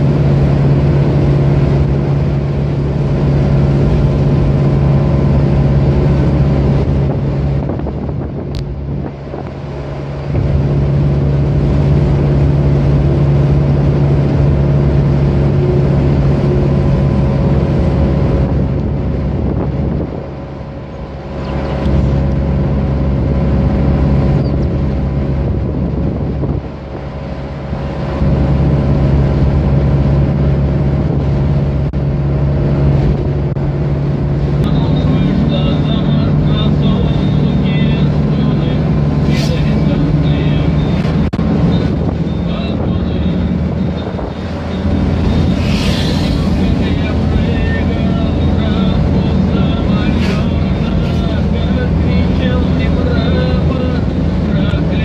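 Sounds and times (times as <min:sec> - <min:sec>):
car cabin road drone: 0:00.0 - 0:55.0.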